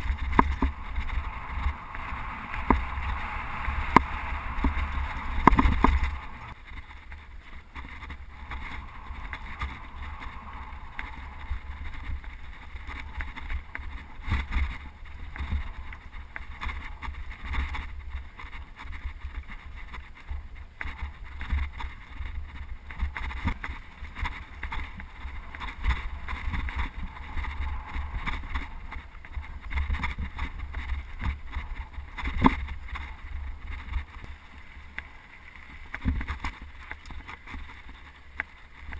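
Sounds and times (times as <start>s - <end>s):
bike knocks and rattles: 0.0s - 38.9s
wind rumbling on microphone: 0.0s - 38.9s.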